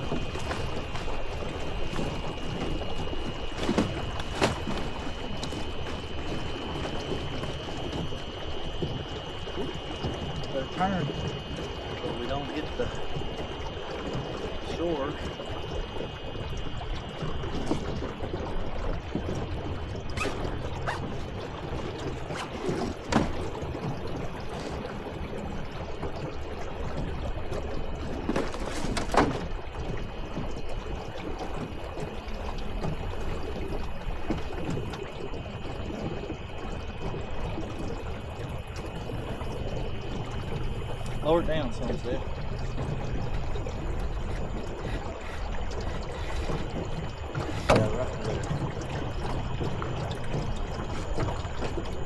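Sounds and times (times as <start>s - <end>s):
faint steady whine: 0.0s - 52.0s
water splashing against boat hull: 0.0s - 52.0s.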